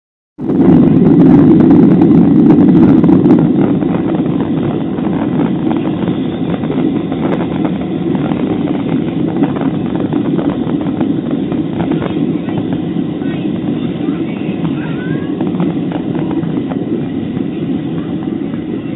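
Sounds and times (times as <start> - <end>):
jet engines roaring in cabin: 0.4 - 18.9.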